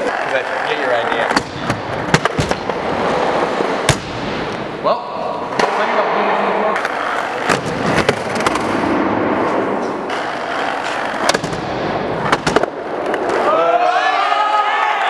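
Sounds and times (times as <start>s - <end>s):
skateboard wheels rolling on concrete: 0.0s - 5.4s, 6.4s - 15.0s.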